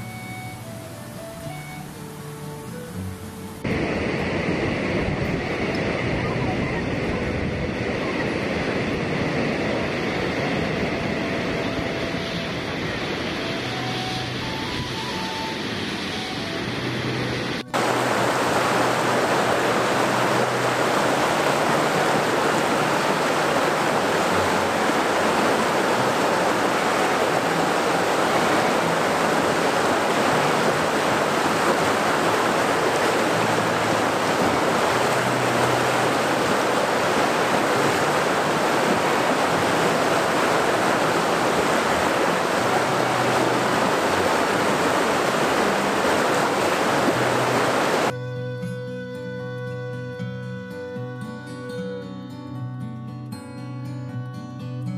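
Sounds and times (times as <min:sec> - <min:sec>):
river water rushing over rapids: 0:00.0 - 0:48.1.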